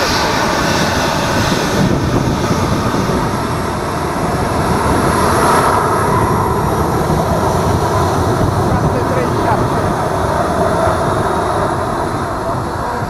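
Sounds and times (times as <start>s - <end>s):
jet engine rumble: 0.0s - 13.0s
jet engine whine: 0.0s - 13.0s.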